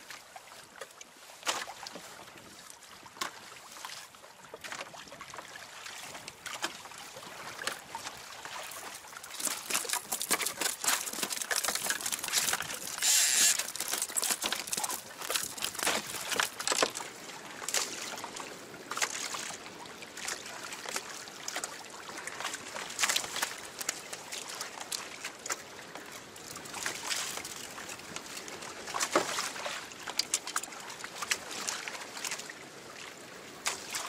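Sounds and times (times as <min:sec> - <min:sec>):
water splashing against kayak hull: 0:00.1 - 0:34.0.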